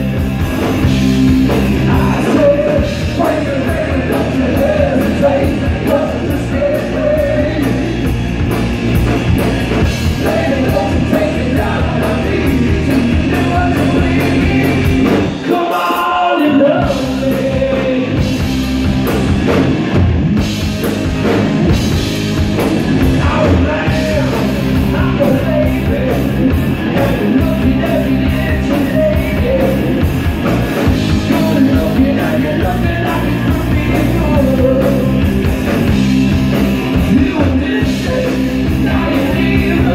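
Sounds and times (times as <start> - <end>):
electric guitar line: 0.0 - 39.9
live rock band playing: 0.0 - 39.9.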